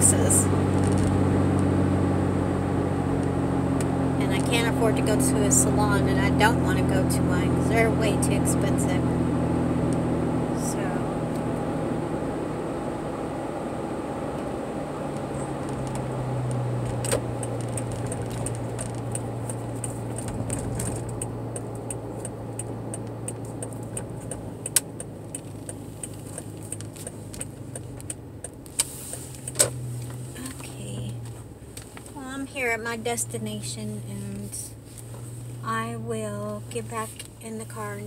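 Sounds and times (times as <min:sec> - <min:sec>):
car engine running: 0:00.0 - 0:38.0
road and cabin noise: 0:00.0 - 0:38.0.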